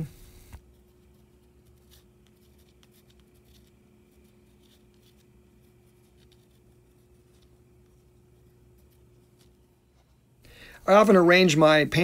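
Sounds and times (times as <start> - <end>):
low steady hum: 0.0 - 12.0
colored pencil scratching: 0.6 - 10.2.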